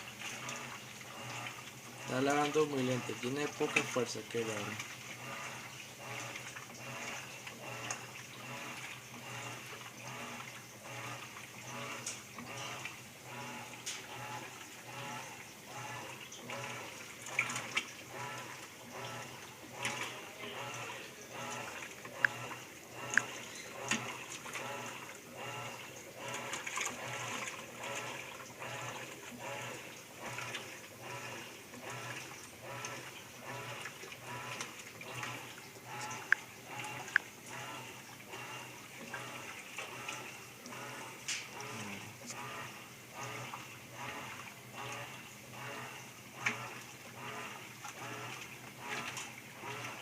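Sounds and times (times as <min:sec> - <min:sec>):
washing machine motor hum: 0:00.0 - 0:50.0
washing machine water sloshing: 0:00.0 - 0:50.0.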